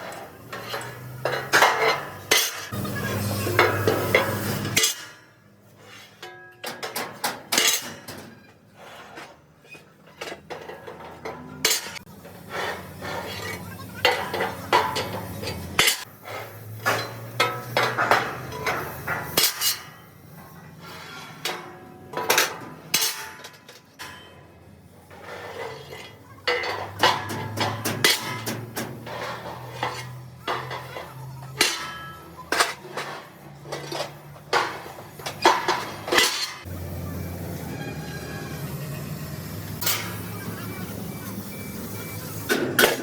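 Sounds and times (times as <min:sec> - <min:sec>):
metallic clanks of steel parts: 0:00.0 - 0:43.0.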